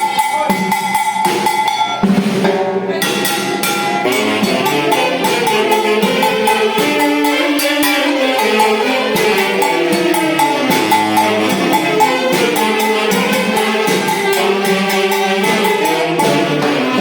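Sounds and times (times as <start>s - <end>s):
andean dance band music: 0.0s - 17.0s
quick steady percussion beat: 0.0s - 17.0s.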